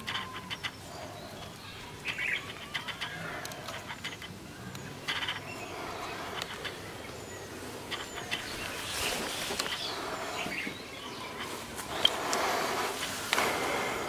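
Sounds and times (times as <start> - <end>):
hands handling bamboo sticks: 0.0 - 14.0
small birds chirping: 0.0 - 14.0.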